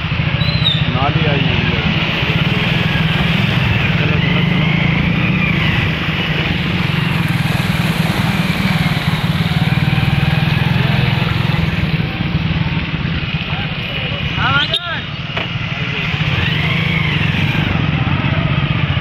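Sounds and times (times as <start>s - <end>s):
engine running with fast pulsing: 0.0s - 19.0s.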